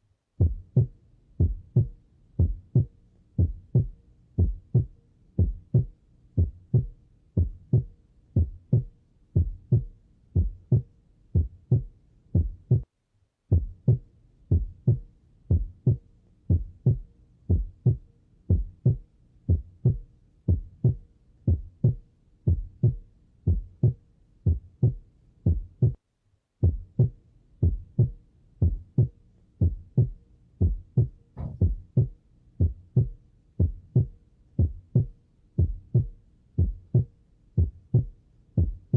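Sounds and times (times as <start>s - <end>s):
heartbeat thumps: 0.4s - 12.9s, 13.5s - 26.0s, 26.6s - 38.9s.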